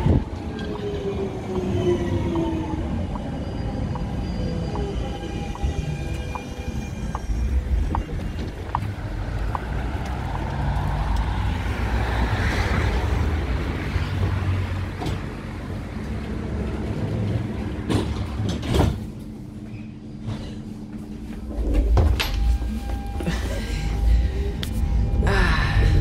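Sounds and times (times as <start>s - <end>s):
tram rumbling on rails: 0.0s - 26.0s.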